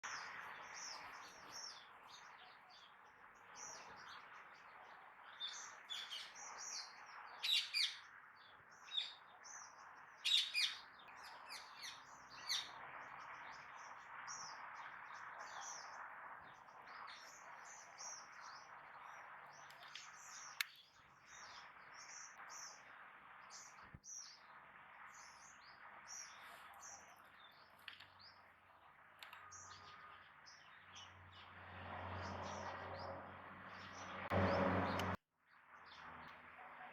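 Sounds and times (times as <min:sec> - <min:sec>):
birds chirping: 0:00.0 - 0:35.2.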